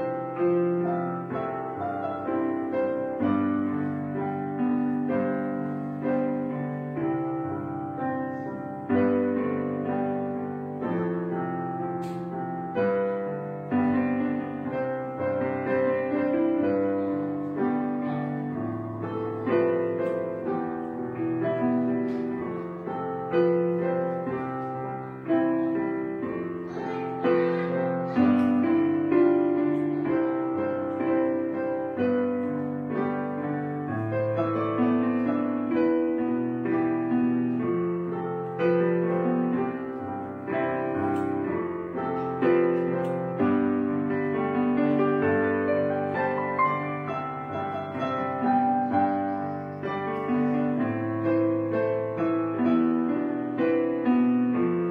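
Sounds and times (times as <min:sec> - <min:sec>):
piano music: 0:00.0 - 0:54.9.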